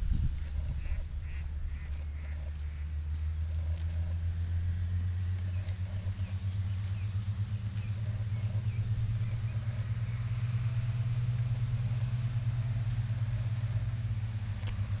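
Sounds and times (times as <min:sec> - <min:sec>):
motor running low rumble: 0:00.0 - 0:15.0.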